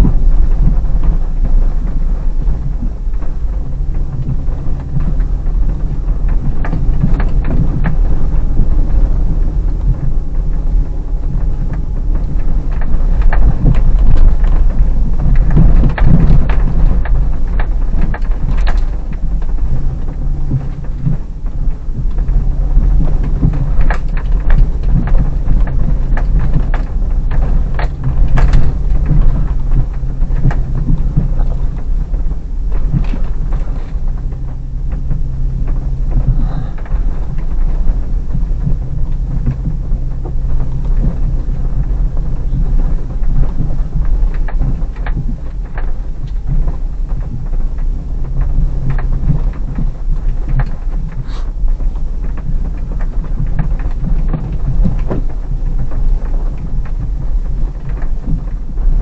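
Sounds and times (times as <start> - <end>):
car engine rumbling: 0.0 - 59.0
knocks and crackles over rough track: 0.0 - 59.0.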